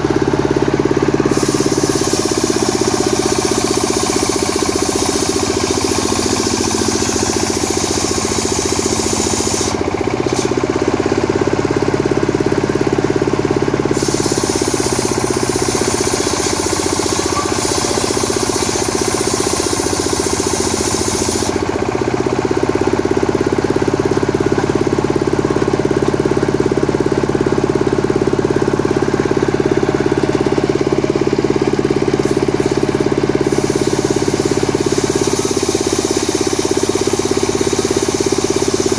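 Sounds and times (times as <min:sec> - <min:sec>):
chainsaw sawing wood: 0:00.0 - 0:11.3, 0:13.5 - 0:24.8, 0:28.3 - 0:38.9.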